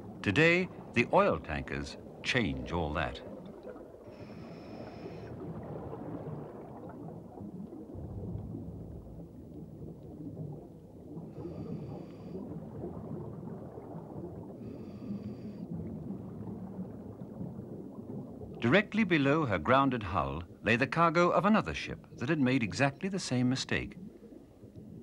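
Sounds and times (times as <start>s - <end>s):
exhaled bubbles rumbling: 0.0s - 20.9s, 23.7s - 25.0s.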